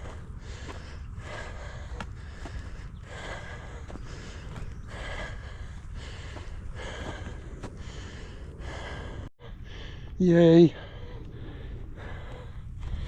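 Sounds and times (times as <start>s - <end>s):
heavy breathing: 0.0s - 13.0s.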